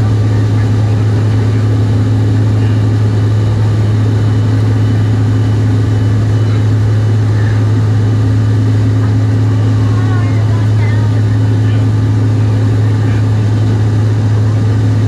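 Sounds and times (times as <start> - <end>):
jet cabin low hum: 0.0 - 15.0.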